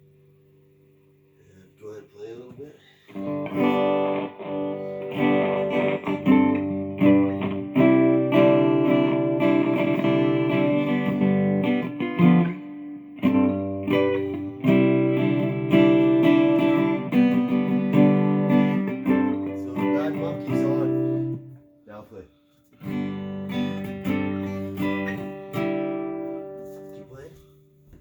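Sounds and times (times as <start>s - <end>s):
acoustic guitar strumming: 2.2s - 27.4s.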